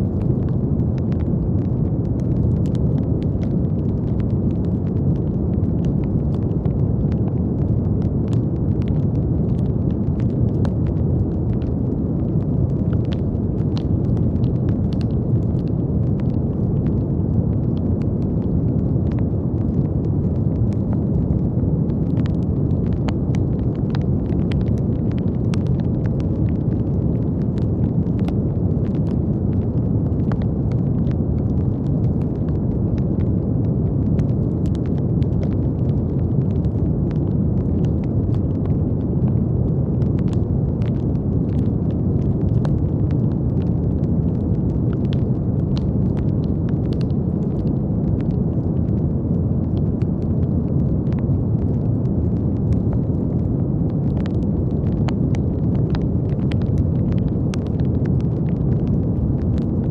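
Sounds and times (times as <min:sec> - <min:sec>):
brown noise rush: 0:00.0 - 0:59.9
faint clicks and crackles: 0:00.0 - 0:59.9.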